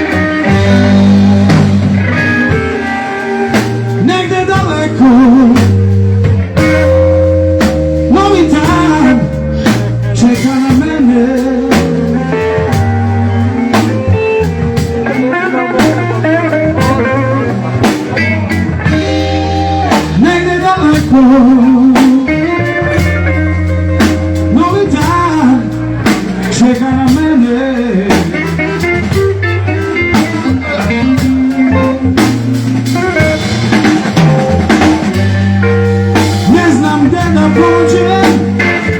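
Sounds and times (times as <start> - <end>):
bass guitar: 0.0 - 38.9
drum kit slow beat: 0.0 - 38.9
electric guitar lead: 0.0 - 38.9.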